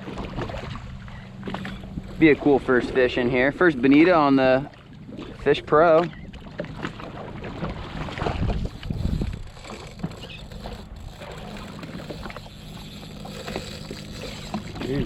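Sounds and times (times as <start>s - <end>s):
water splashing and rushing: 0.0s - 15.0s
watercraft engine idling: 0.0s - 15.0s.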